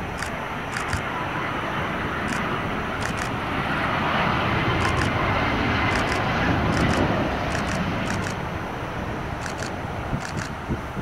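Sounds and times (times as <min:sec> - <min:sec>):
jet airliner roar: 0:00.0 - 0:11.0.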